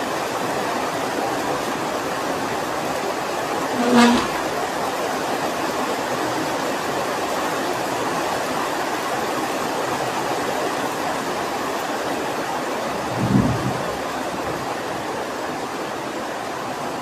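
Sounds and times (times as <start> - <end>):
steady rain falling: 0.0 - 3.8, 4.4 - 17.0.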